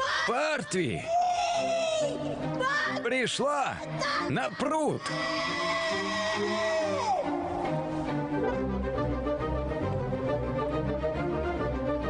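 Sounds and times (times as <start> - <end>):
melodic film music: 0.8 - 12.0.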